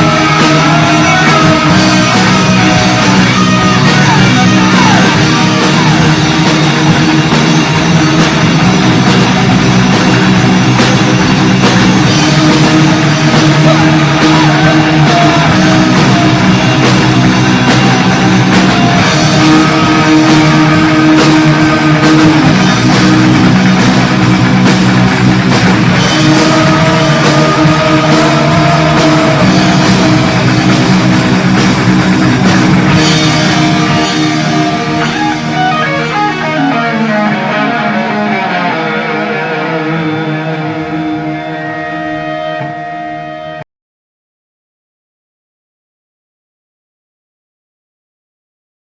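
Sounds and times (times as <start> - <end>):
drum kit: 0.0 - 43.1
bass guitar: 0.0 - 43.6
distorted electric guitars: 0.0 - 43.6.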